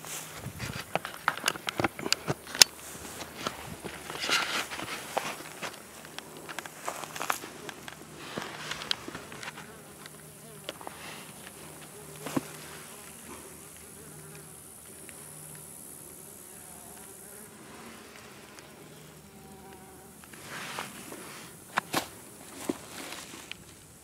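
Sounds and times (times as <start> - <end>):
flying insect buzzing: 0.0 - 24.0.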